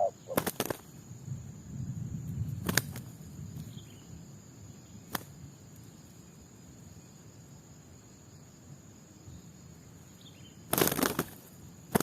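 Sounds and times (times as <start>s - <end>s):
crickets droning: 0.0s - 12.0s.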